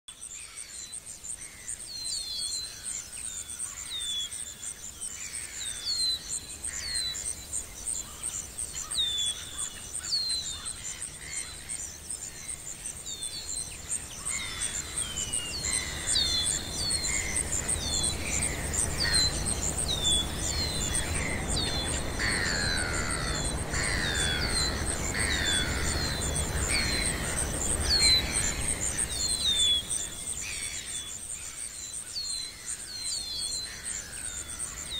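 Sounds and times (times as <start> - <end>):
birds chirping: 1.6 - 34.9
high insect trill: 2.6 - 34.9.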